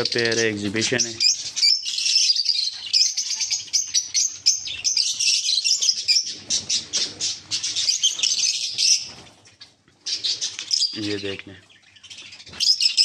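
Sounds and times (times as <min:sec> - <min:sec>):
budgerigars chirping: 0:00.0 - 0:13.0.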